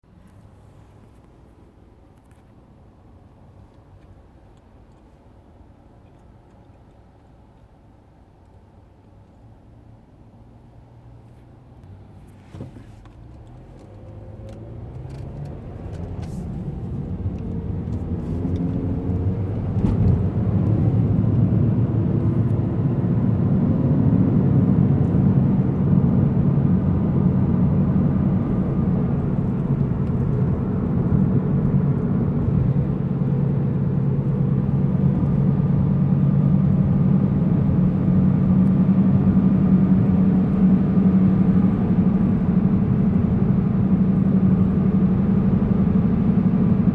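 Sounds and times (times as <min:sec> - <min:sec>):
car accelerating with low hum: 0:09.3 - 0:46.9.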